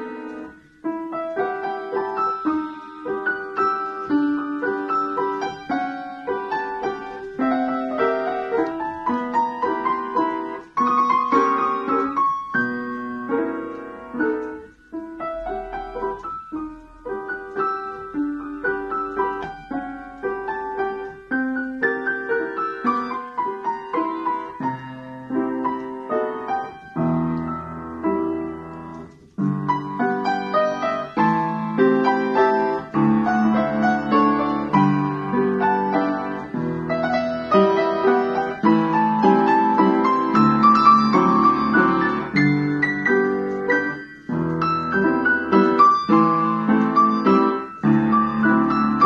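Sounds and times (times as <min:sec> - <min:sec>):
upright piano playing a waltz: 0:00.0 - 0:49.0.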